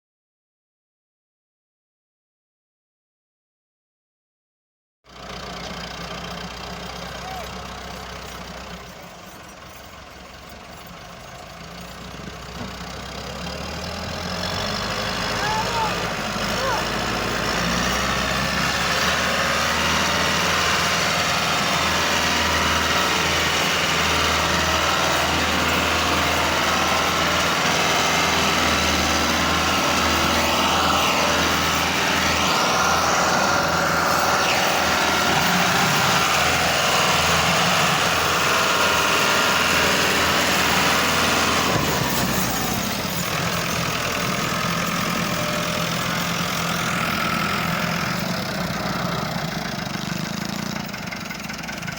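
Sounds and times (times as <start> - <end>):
tractor engine humming: 5.1 - 51.9.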